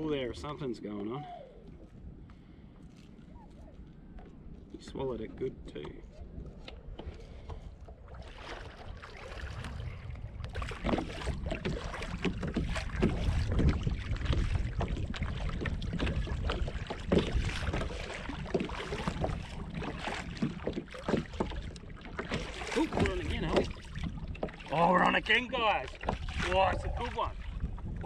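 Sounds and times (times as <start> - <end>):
wind rumble on microphone: 0.0 - 28.0
waves slapping against kayak hull: 4.2 - 28.0.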